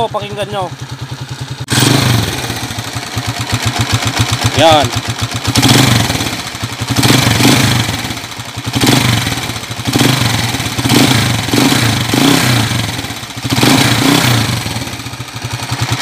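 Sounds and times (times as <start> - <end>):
motorcycle engine clattering and revving: 0.0 - 16.0.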